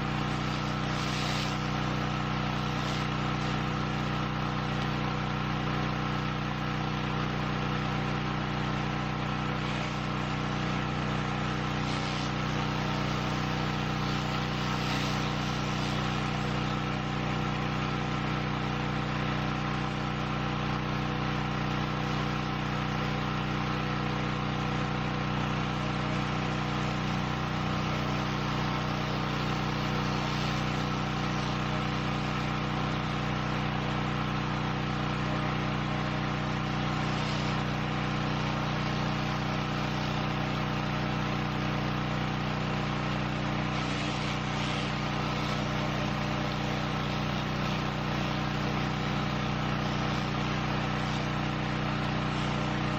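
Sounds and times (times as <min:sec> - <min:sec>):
pressure washer hiss: 0:00.0 - 0:19.5, 0:21.0 - 0:52.9
pressure washer engine running: 0:00.0 - 0:52.9.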